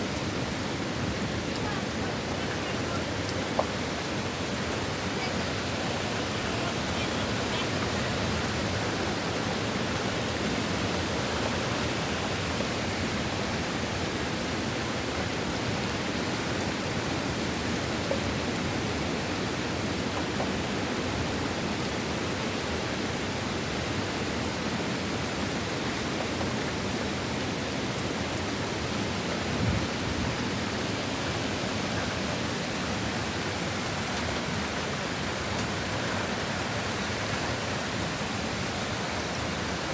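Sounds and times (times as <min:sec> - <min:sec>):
wind and rain rushing: 0:00.0 - 0:39.9.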